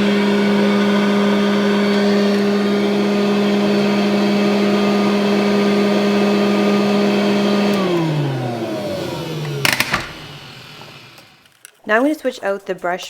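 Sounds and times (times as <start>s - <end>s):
vacuum cleaner motor running: 0.0s - 11.4s.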